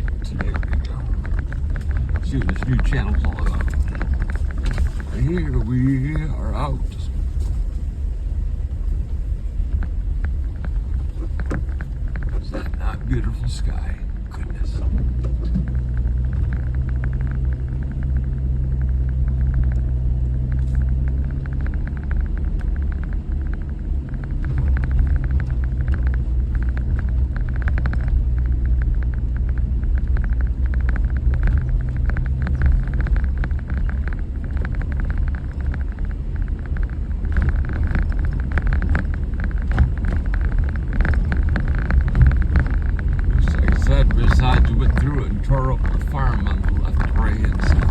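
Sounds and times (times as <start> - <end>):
low engine drone: 0.0 - 47.9
tyres on dirt road: 0.0 - 47.9.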